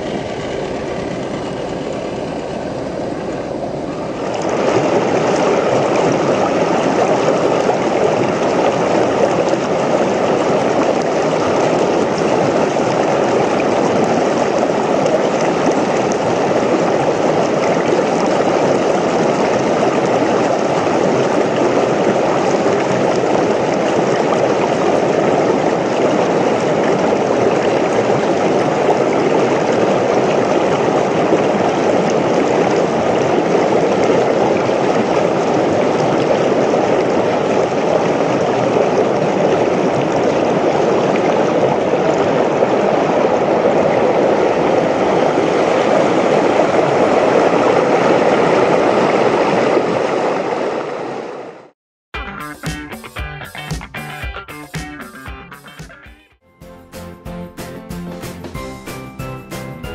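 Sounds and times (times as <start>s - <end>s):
creek water rushing over rocks: 0.0s - 51.4s.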